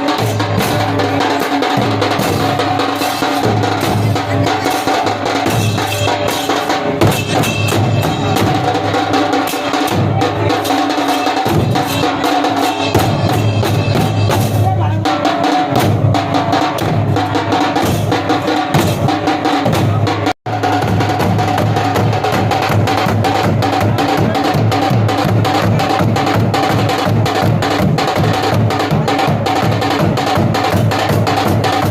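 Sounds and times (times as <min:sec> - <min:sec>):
fast drumming: 0:00.0 - 0:31.9.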